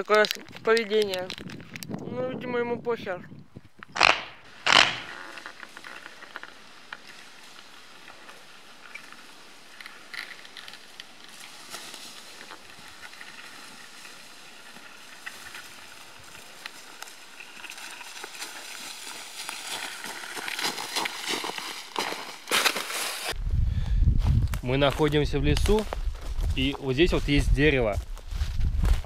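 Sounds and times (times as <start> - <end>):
footsteps crunching dry leaves: 4.7 - 23.4, 24.2 - 29.0.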